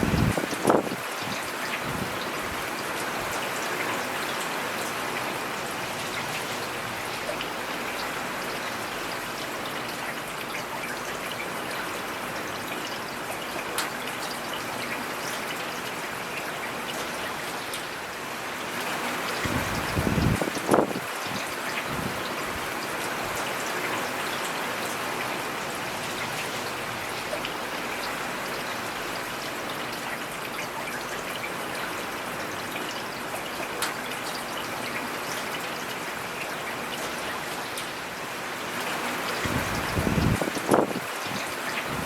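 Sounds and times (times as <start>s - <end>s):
rain on foliage: 0.0s - 42.0s.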